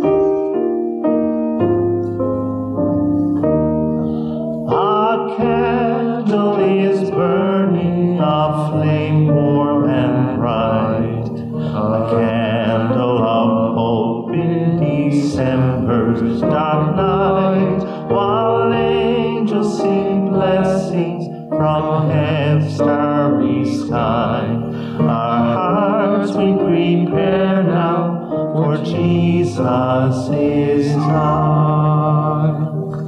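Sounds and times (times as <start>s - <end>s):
sustained keyboard accompaniment: 0.0s - 33.0s
person singing with vibrato: 3.8s - 33.0s.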